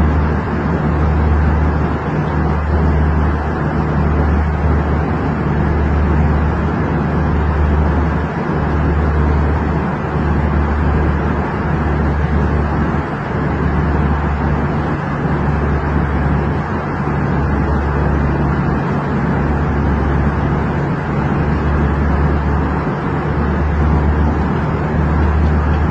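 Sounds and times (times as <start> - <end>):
airliner cabin engine drone: 0.0 - 25.9.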